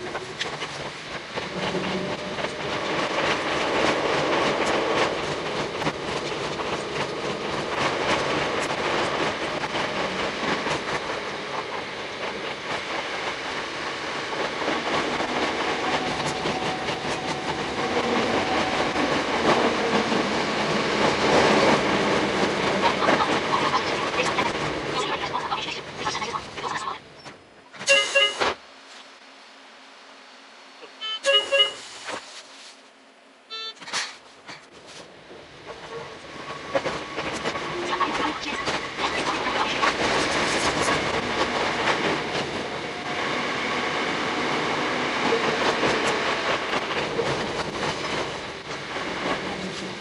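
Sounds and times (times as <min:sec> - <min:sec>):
wheels clicking on rails: 0:00.0 - 0:27.4, 0:33.8 - 0:50.0
electric train running on rails: 0:00.0 - 0:50.0.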